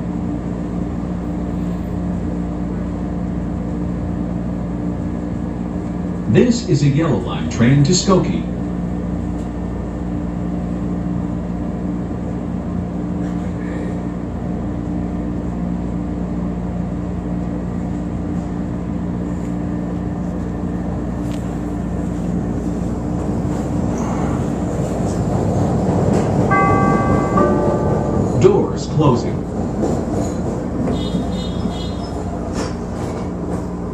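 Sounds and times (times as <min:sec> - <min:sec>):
train ventilation noise: 0:00.0 - 0:33.9.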